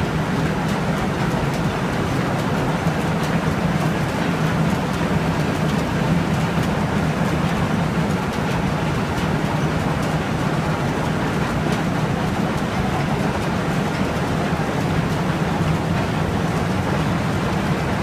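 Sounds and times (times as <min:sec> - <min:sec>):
mill machinery rumbling: 0:00.0 - 0:18.0.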